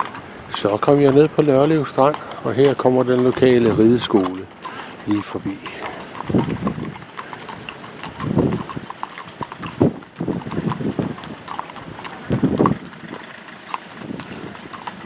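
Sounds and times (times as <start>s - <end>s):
dull hoof thuds: 0.0s - 15.0s
horse hooves clip-clopping on sand: 0.0s - 15.0s.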